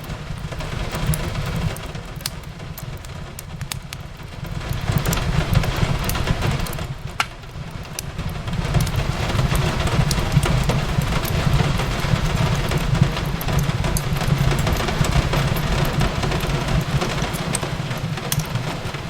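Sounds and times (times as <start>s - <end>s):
fireplace crackling and popping: 0.0s - 19.0s
rain hissing: 0.0s - 19.0s.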